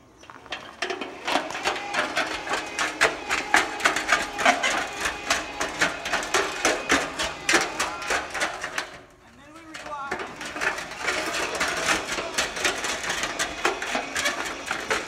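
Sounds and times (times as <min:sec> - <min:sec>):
roller clattering over gravel: 0:00.0 - 0:15.0.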